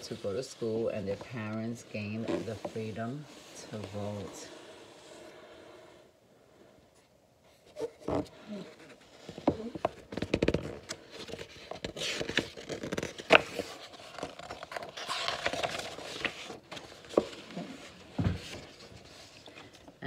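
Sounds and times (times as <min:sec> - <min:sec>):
paper rustling and crinkling: 0:00.0 - 0:04.7, 0:07.5 - 0:20.0
book pages turning: 0:00.0 - 0:05.6, 0:07.0 - 0:20.0.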